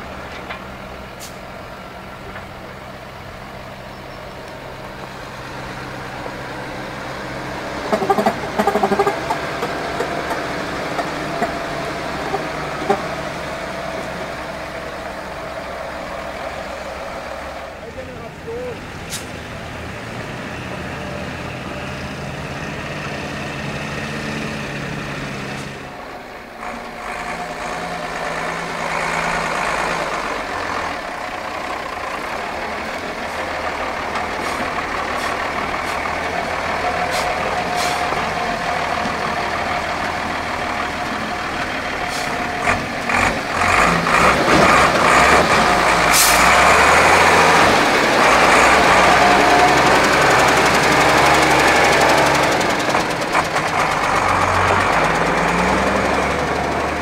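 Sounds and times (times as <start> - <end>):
truck knocks and clatters: 0.0 - 16.8, 26.4 - 57.0
diesel truck engine: 0.0 - 57.0.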